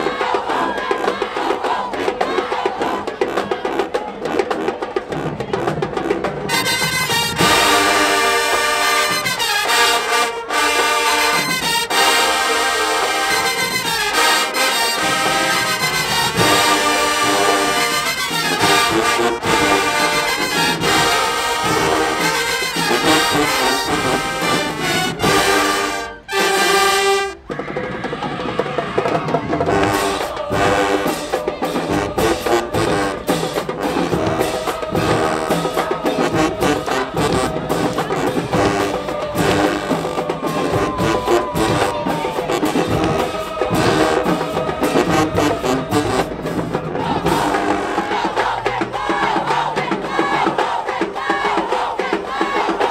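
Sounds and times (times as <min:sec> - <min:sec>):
drums: 0:00.0 - 0:52.9
marching band brass: 0:00.0 - 0:52.9.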